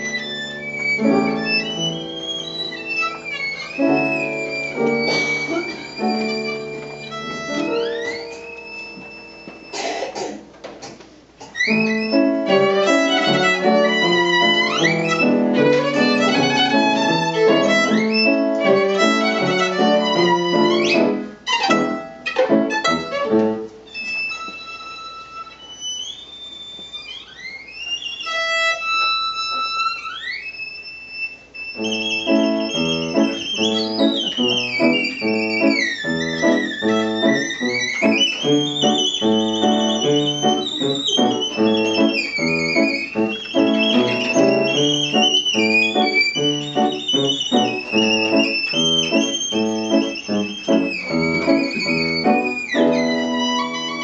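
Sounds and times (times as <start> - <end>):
solo violin: 0.0 - 9.7, 11.6 - 54.0
piano accompaniment: 0.0 - 10.0, 11.6 - 25.7, 31.6 - 54.0.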